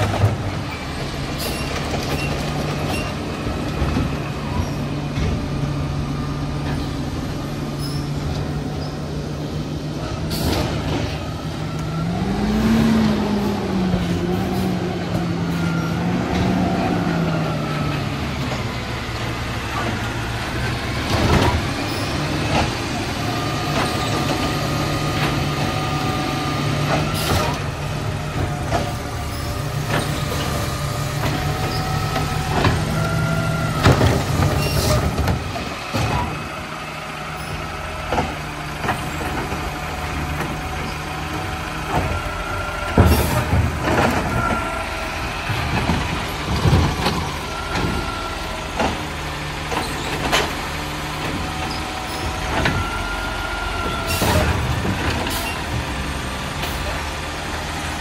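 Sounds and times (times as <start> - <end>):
bangs and clunks of carts: 0.0 - 9.1, 9.7 - 58.0
garbage truck engine running: 0.0 - 58.0.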